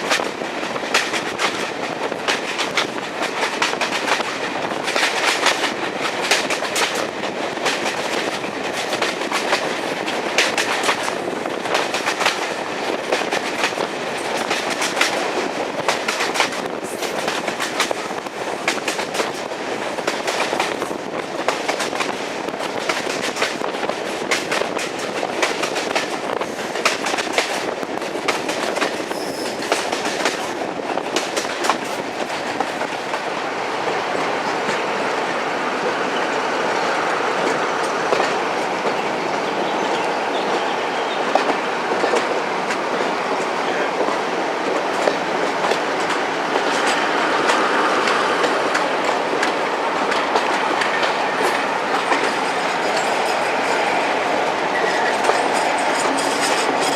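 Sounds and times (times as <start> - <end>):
train rumbling: 0.0 - 56.9.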